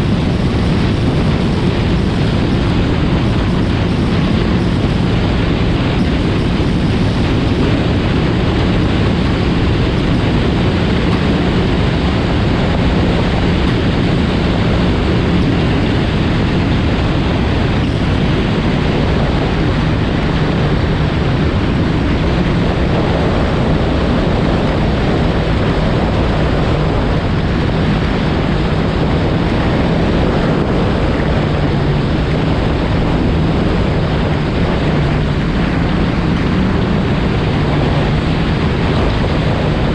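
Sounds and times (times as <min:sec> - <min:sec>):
personal watercraft engine drone: 0:00.0 - 0:39.9
wind and water rushing: 0:00.0 - 0:39.9.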